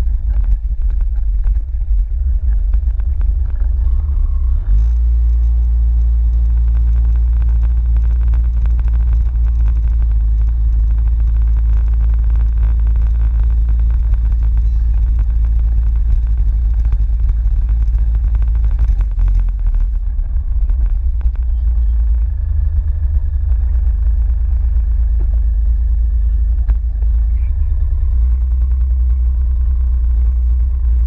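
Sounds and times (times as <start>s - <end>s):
vehicle engine running: 0.0s - 31.0s
wind on microphone: 0.0s - 31.0s.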